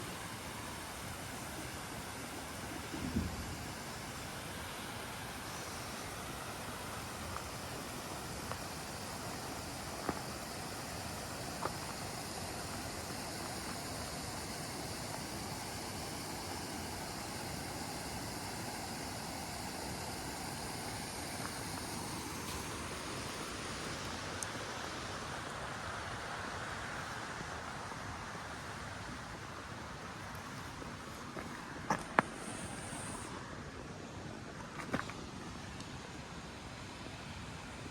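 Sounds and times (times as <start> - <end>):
rushing outdoor noise: 0.0 - 37.9.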